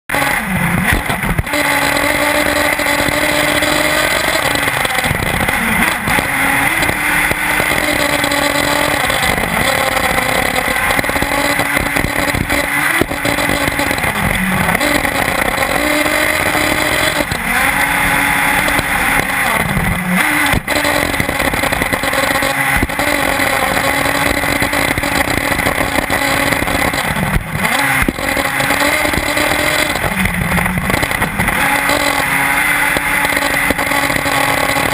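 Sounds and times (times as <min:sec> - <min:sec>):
two-stroke model engine revving: 0:00.1 - 0:34.9.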